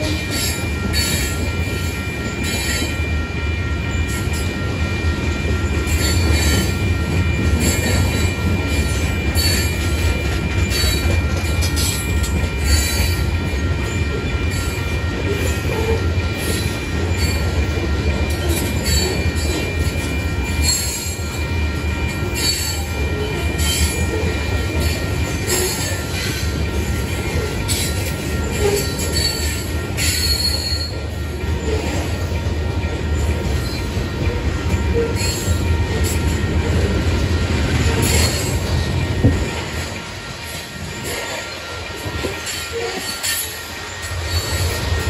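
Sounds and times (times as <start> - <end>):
steel wheels rumbling on rail: 0.0 - 45.0.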